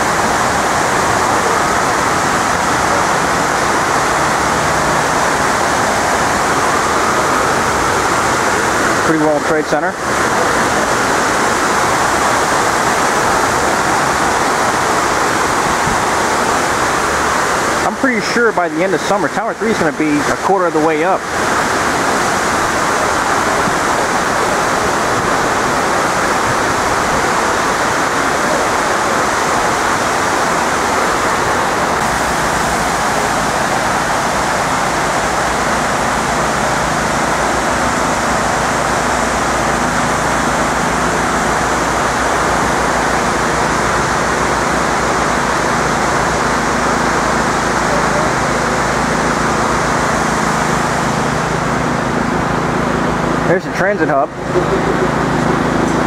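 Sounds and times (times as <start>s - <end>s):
low engine hum: 0.0s - 56.0s
water pouring into pool: 0.0s - 56.0s.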